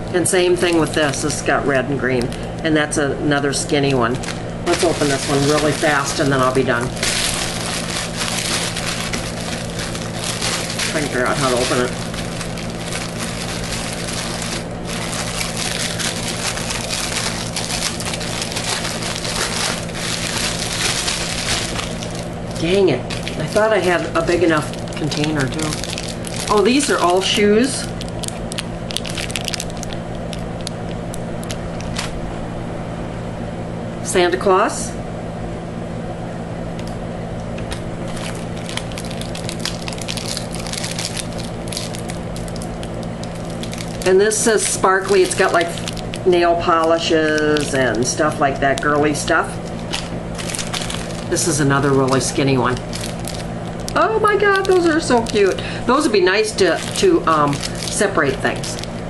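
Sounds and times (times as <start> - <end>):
steady low hum: 0.0 - 59.0
packaging crinkling: 0.5 - 2.8, 3.8 - 32.2, 37.6 - 59.0.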